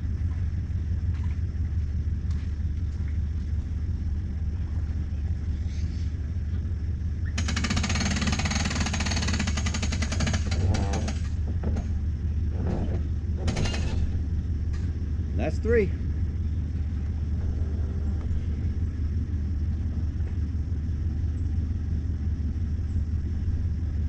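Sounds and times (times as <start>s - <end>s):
outboard motor idling and revving: 0.0s - 24.0s.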